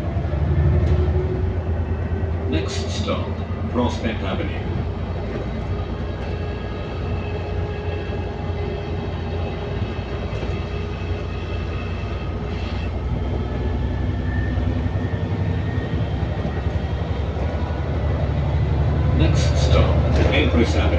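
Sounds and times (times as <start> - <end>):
bus engine rumble: 0.0 - 20.9.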